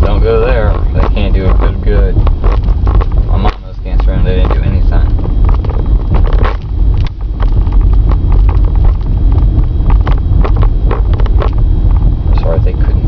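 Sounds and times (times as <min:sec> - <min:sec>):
road rumble: 0:00.0 - 0:13.0
wind buffeting microphone: 0:00.0 - 0:13.0.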